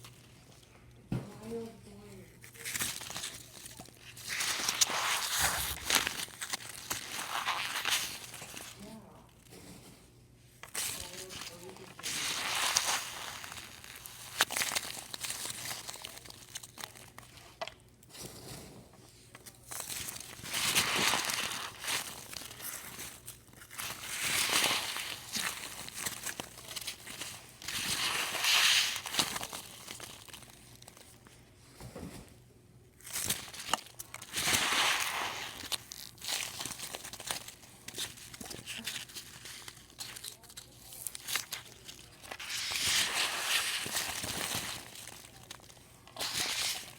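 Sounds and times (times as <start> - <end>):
packing peanuts crackling: 1.5 - 9.4, 10.6 - 17.8, 19.4 - 31.3, 33.0 - 46.9.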